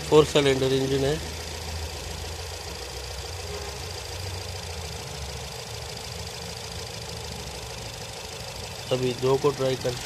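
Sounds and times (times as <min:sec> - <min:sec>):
car engine idling with misfire: 0:00.0 - 0:10.0.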